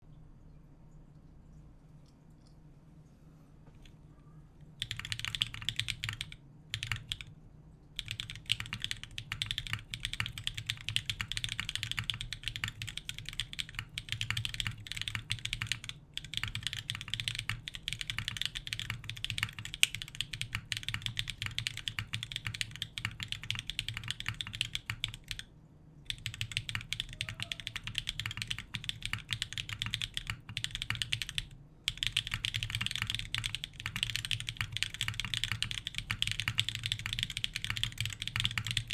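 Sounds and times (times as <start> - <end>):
mechanical keyboard typing: 4.8 - 7.3, 8.0 - 25.5, 26.1 - 38.9.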